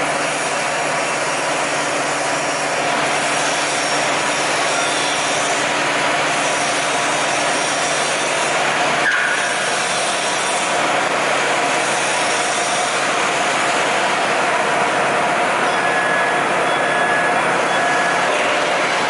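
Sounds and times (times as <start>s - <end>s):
plasma cutting machine hiss and hum: 0.0s - 15.6s.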